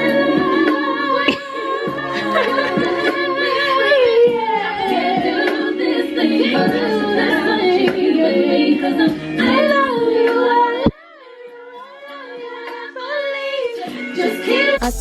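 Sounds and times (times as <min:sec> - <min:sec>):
woman singing with backing track: 0:00.0 - 0:15.0.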